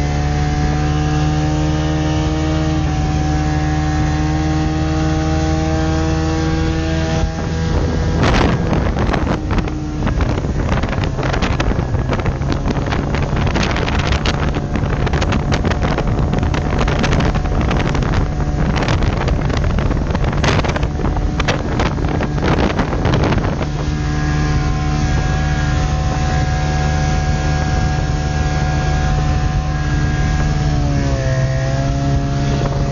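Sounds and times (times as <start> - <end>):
outboard motor running: 0.0 - 32.9
wind buffeting microphone: 0.0 - 32.9.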